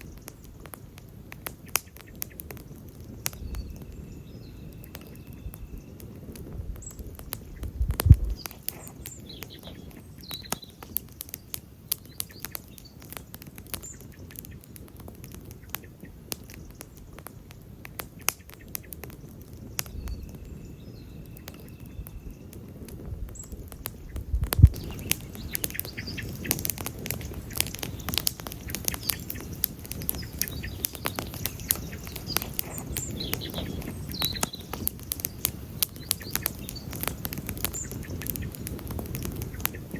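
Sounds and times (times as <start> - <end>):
campfire crackling: 0.0 - 39.9
loud fire pops: 0.0 - 39.9
low rumble of flames: 0.0 - 39.9.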